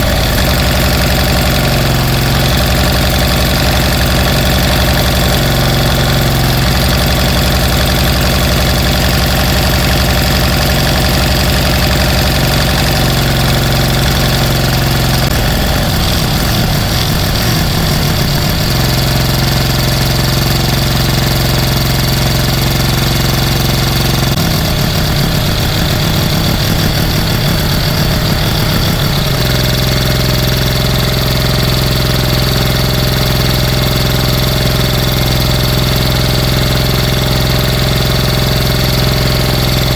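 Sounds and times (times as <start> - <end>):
small engine running roughly: 0.0 - 39.9.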